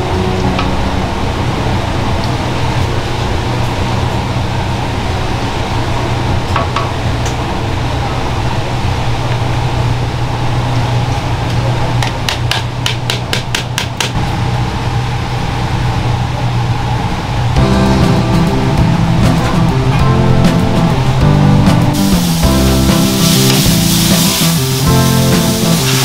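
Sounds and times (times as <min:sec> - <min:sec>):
low hum of cooking area: 0:00.0 - 0:26.0.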